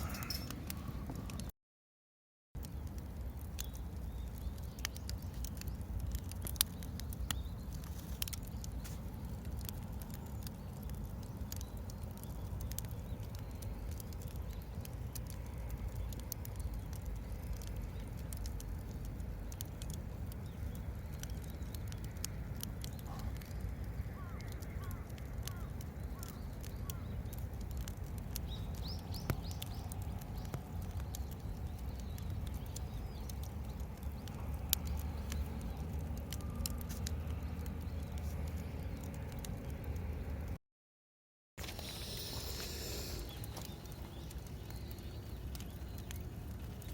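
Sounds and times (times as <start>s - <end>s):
campfire crackling and popping: 0.0s - 1.5s, 2.6s - 40.6s, 41.6s - 46.9s.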